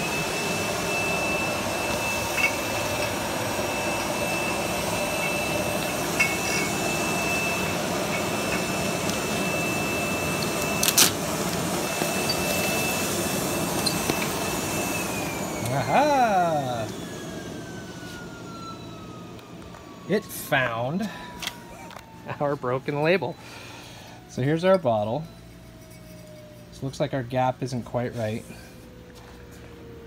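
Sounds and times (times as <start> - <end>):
machine high whine: 0.0 - 30.0.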